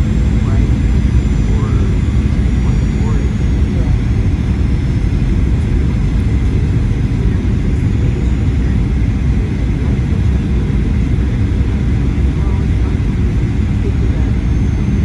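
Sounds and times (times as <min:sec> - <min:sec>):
aircraft cabin low rumble: 0:00.0 - 0:15.0
faint steady whine: 0:00.0 - 0:15.0.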